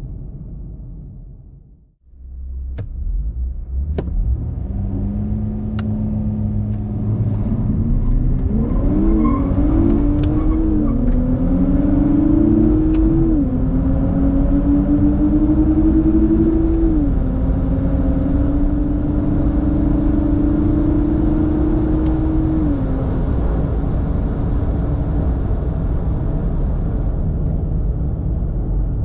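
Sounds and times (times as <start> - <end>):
car engine accelerating: 2.1 - 29.0.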